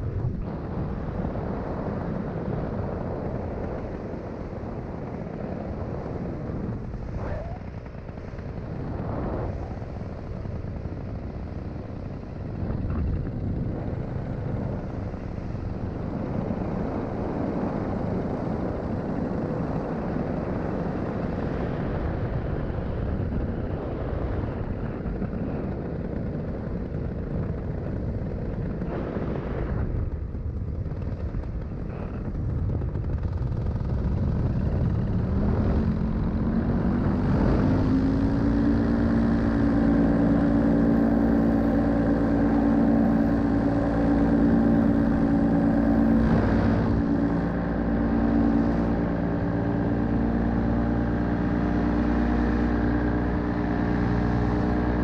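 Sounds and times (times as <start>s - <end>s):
paramotor engine: 0.0s - 55.0s
wind noise on microphone: 0.0s - 55.0s.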